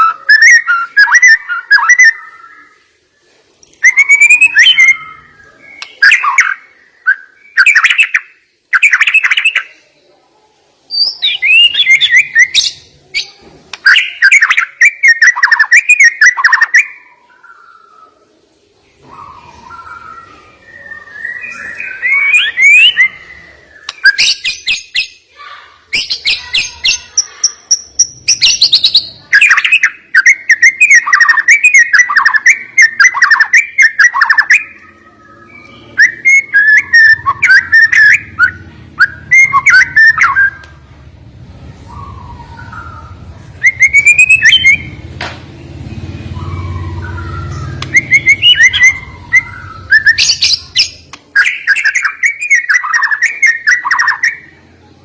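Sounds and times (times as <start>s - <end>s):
songbird singing: 0.0s - 10.0s, 10.8s - 55.0s.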